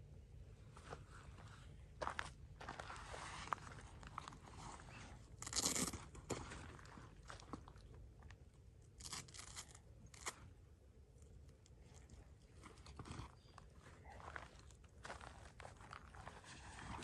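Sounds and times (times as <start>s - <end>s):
faint rustles and crunches: 0.6s - 17.0s.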